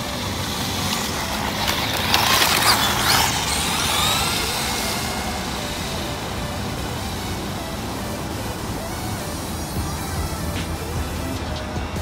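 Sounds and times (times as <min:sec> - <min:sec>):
rc truck electric motor whine: 0:00.0 - 0:12.0
tyre noise on asphalt: 0:00.0 - 0:12.0.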